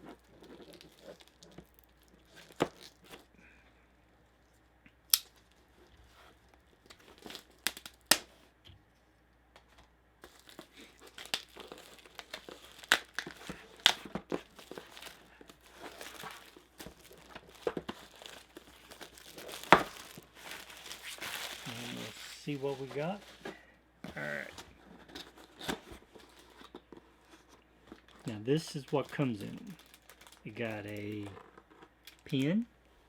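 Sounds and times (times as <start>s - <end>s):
packaging crinkling and tearing: 0.0s - 3.3s, 5.1s - 8.4s, 10.2s - 23.6s, 24.2s - 32.6s.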